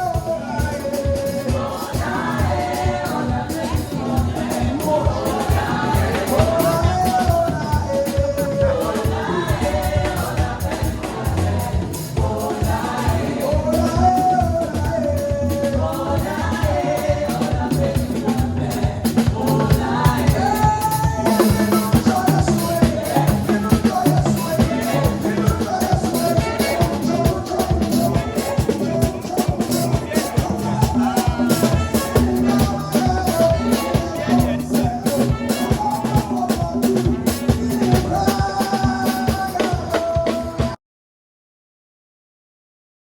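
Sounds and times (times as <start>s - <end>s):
drum kit beat: 0.0s - 40.8s
gospel group singing: 0.0s - 40.8s.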